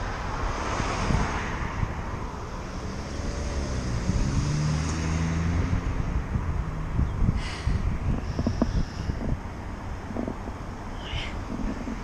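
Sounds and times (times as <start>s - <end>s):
car engine hum: 0.0s - 12.0s
tyre noise from passing car: 0.0s - 12.0s.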